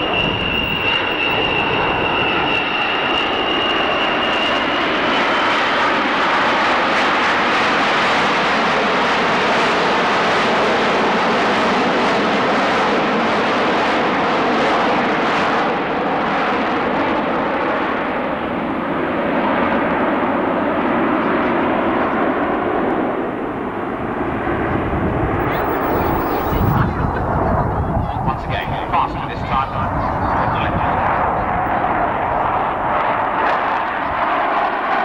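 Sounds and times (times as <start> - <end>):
jet bomber flying overhead: 0.0 - 35.0.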